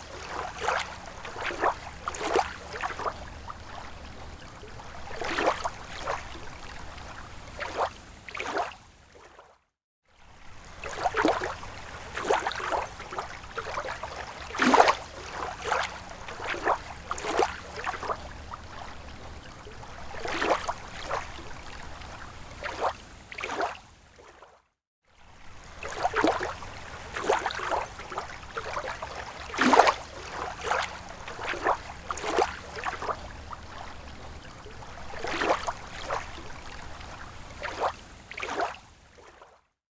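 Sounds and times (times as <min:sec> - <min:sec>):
water lapping and gurgling: 0:00.0 - 0:39.7.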